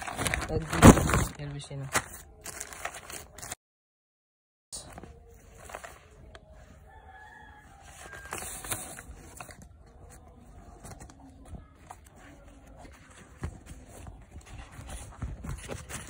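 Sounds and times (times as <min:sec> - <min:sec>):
bag and packaging rustling: 0:00.0 - 0:03.6, 0:04.8 - 0:16.0.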